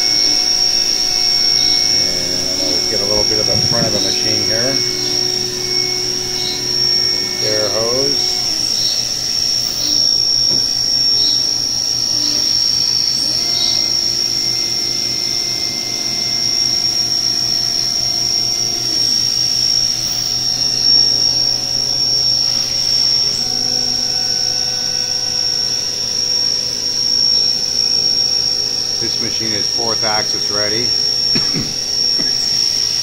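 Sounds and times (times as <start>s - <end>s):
axis drives low tones: 0.0s - 33.0s
machine spindle high whine: 0.0s - 33.0s.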